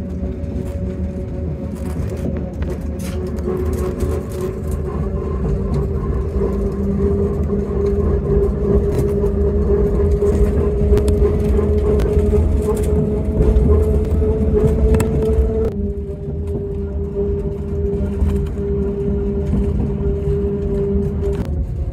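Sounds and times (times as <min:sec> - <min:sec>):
railcar rumbling on track: 0:00.0 - 0:21.9.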